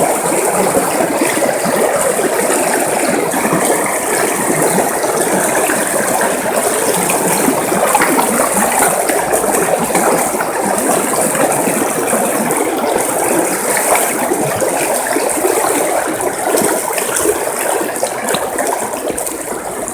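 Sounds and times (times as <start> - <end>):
river water rushing: 0.0 - 19.9.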